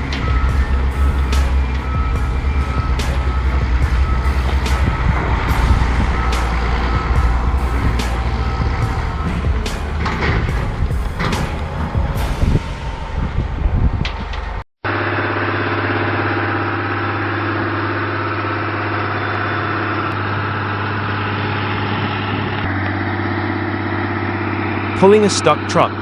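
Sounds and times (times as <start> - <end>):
truck diesel engine idling: 0.0 - 14.6, 16.0 - 26.0.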